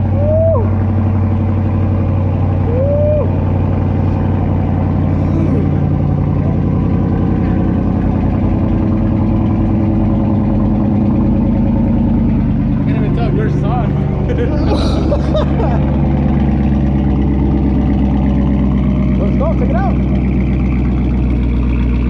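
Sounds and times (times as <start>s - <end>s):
car engine fast idle: 0.0s - 22.0s.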